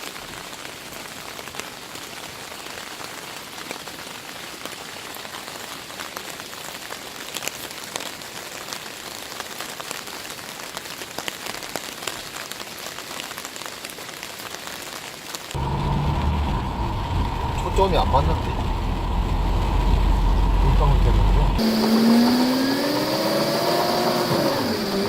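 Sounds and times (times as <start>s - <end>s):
raindrops ticking on a surface: 0.0s - 22.5s
heavy rain falling: 0.0s - 25.0s.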